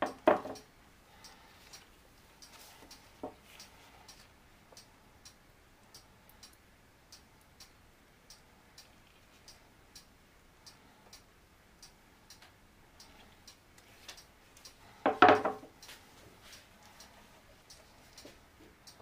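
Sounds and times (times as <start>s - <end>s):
clock ticking: 0.0s - 14.9s, 15.7s - 19.0s.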